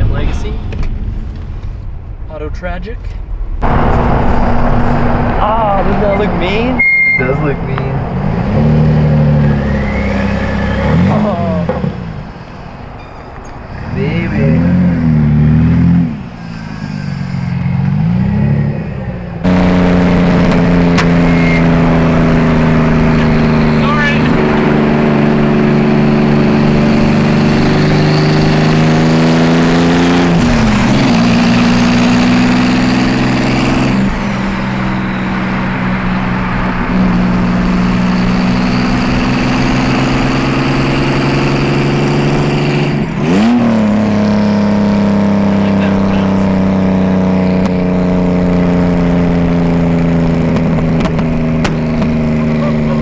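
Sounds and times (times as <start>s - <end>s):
car engine running under load: 3.0s - 53.0s.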